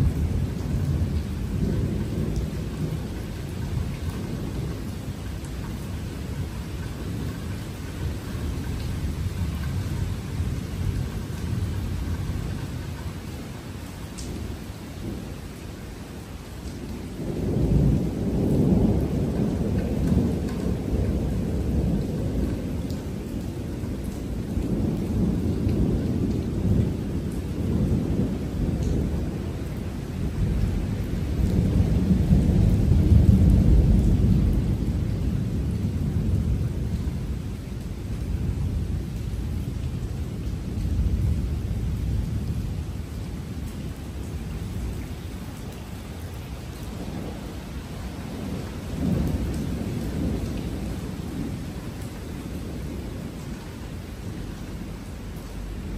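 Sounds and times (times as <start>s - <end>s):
thunder rumbling: 0.0s - 13.3s, 16.7s - 55.9s.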